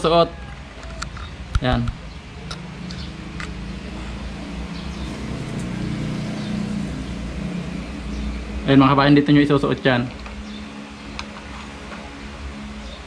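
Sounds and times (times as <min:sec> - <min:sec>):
engine hum: 0:00.6 - 0:13.0.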